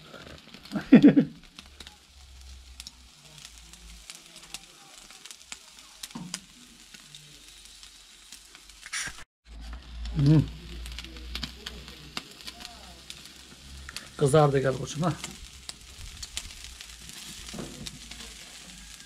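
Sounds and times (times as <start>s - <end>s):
chicken wings sizzling: 0.0s - 19.0s
fat popping in flames: 0.0s - 19.0s.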